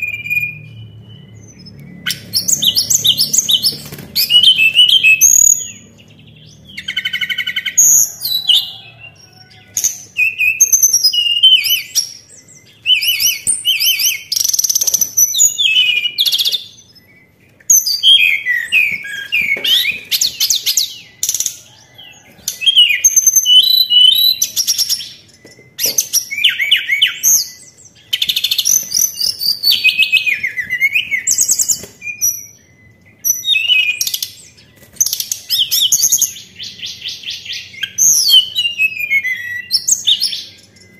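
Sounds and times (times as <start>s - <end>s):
songbird singing chirps and trills: 0.0s - 40.9s.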